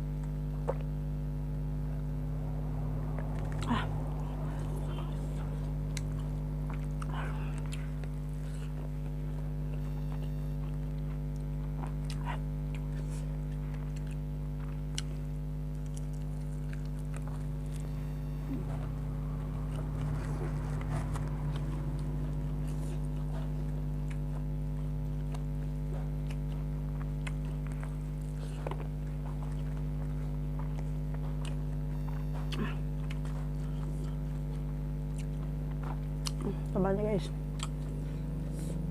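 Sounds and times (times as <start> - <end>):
chewing and biting food: 0.0 - 38.9
low electrical hum: 0.0 - 38.9.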